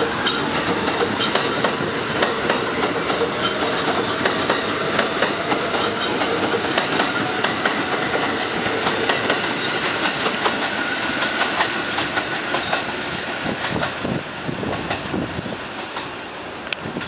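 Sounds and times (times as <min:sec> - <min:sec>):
train wheels clicking over rail joints: 0:00.0 - 0:17.0.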